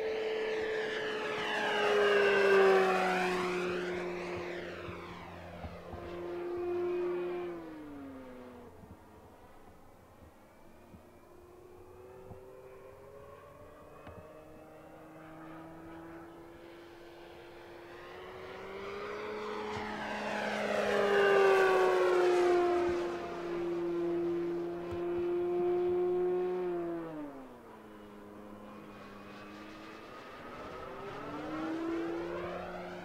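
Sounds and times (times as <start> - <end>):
model plane electric motor whining: 0.0 - 33.0.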